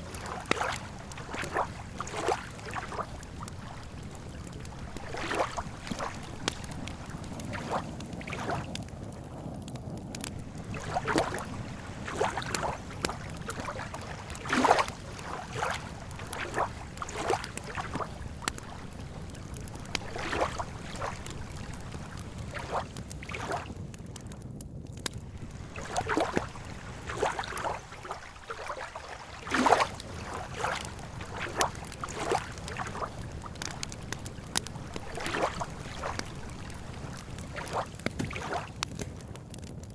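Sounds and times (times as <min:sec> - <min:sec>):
small waves lapping shore: 0:00.0 - 0:09.2, 0:10.2 - 0:23.8, 0:25.2 - 0:39.2
campfire crackling and popping: 0:00.0 - 0:39.9.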